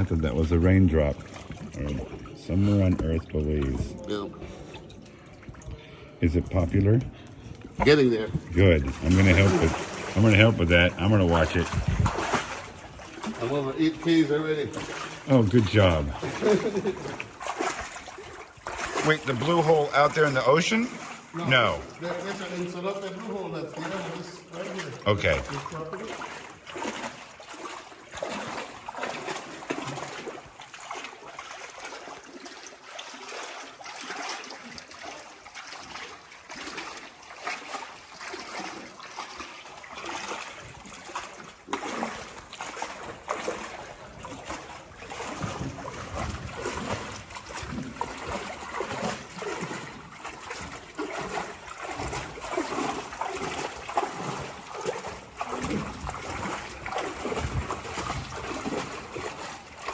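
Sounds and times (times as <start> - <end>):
water dripping: 0.0 - 59.9
water trickling and splashing: 0.0 - 59.9.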